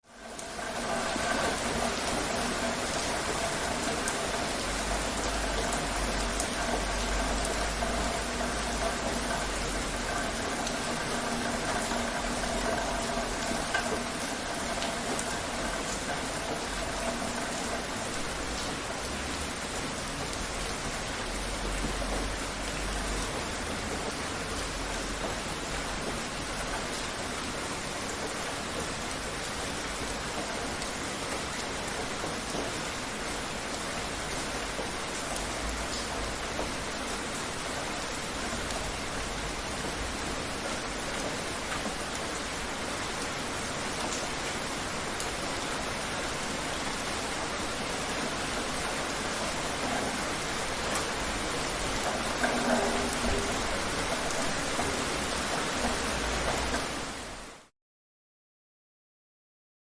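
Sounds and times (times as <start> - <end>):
steady rain pattering: 0.0 - 57.7.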